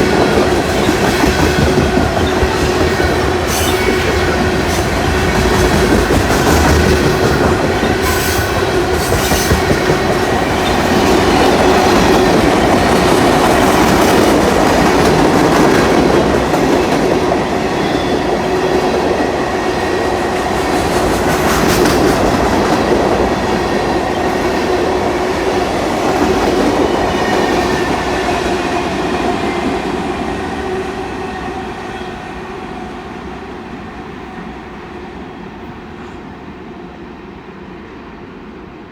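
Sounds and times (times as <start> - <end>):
train passing: 0.0 - 38.9.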